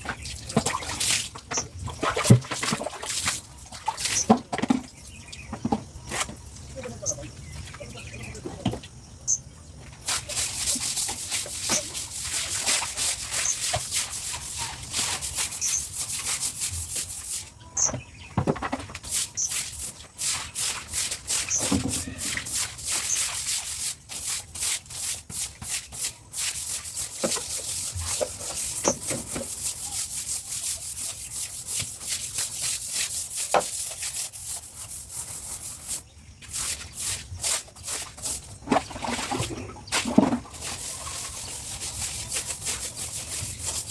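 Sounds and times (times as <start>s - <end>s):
broom scrubbing wet pavement: 0.0s - 4.8s, 10.0s - 17.6s, 18.9s - 43.9s.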